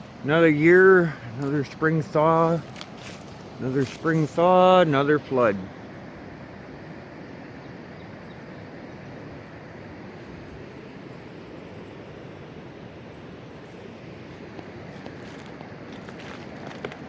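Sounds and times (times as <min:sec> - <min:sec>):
rushing creek water: 0:00.0 - 0:17.0.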